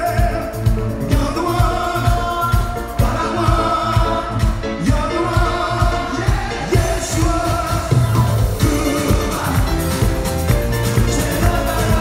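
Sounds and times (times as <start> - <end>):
live band playing: 0.0 - 12.0
people singing: 1.1 - 12.0.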